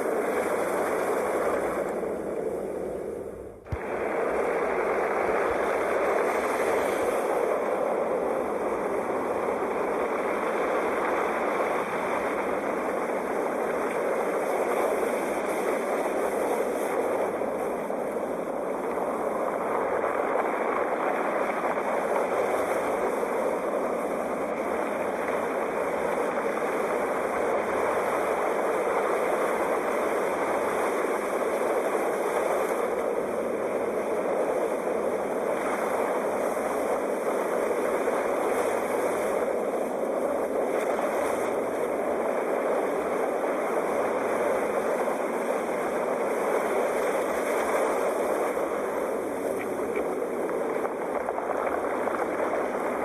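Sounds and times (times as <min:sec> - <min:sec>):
sea waves washing onto shore: 0:00.0 - 0:53.0.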